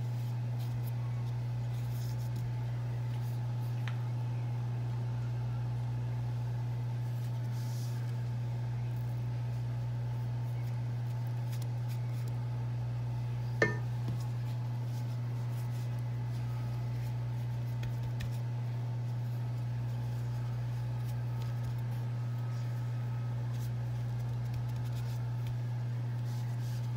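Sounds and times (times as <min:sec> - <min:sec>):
handling pastry: 0:00.0 - 0:04.3, 0:06.6 - 0:26.9
steady low hum: 0:00.0 - 0:26.9.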